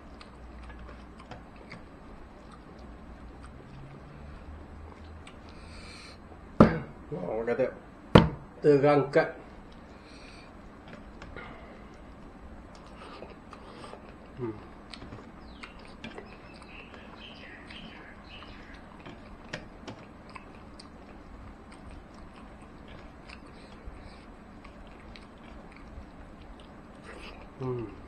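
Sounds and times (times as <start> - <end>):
person chewing food: 0.0 - 5.9, 9.6 - 28.0.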